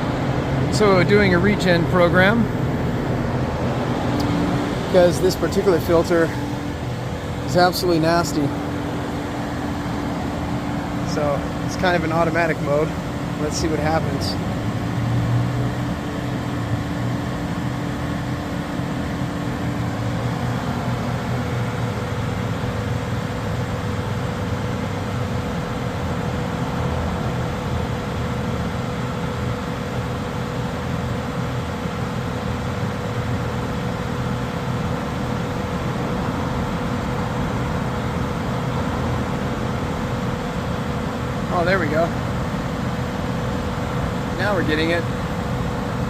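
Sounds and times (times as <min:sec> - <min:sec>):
diesel engine running: 0:00.0 - 0:46.0
steady high whine: 0:00.0 - 0:46.0.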